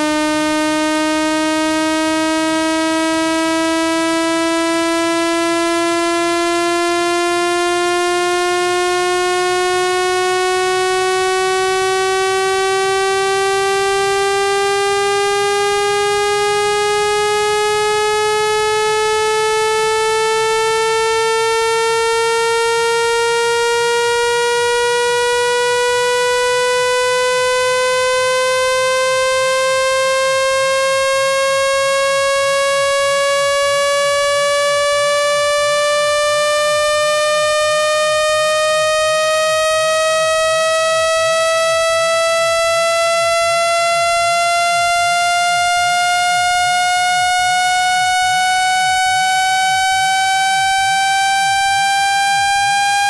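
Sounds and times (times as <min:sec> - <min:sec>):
buzzy synthesized tone rising: 0:00.0 - 0:53.0.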